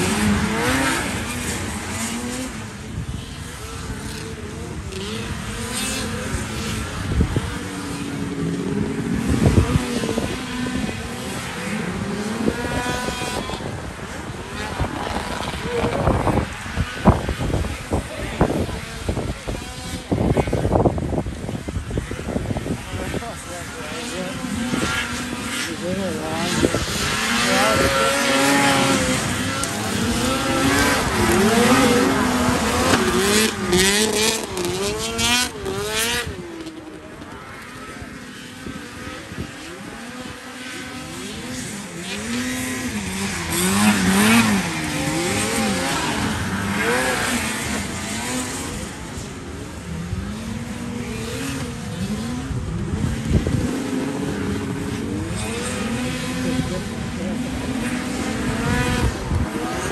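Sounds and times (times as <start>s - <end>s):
snowmobile engines revving: 0.0s - 59.9s.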